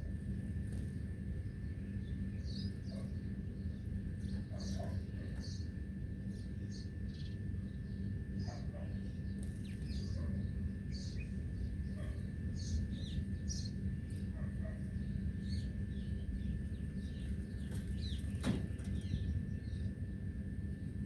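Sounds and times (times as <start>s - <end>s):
small birds chirping: 1.4s - 20.2s.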